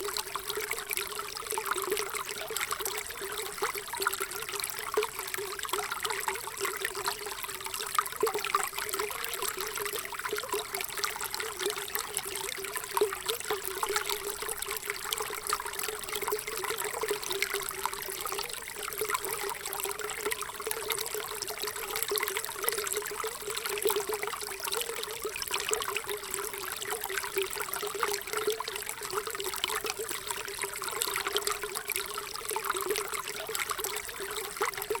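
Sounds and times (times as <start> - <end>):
water trickling: 0.0 - 35.0.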